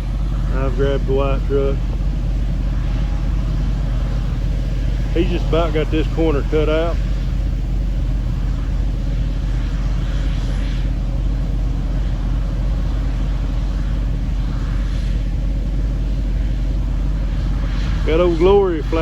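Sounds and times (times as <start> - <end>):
vehicle engine running steadily: 0.0 - 19.0.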